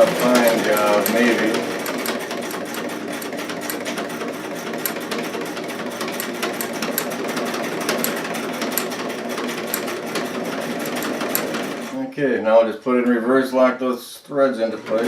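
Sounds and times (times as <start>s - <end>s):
sewing machine running: 0.0s - 12.0s, 14.6s - 15.0s.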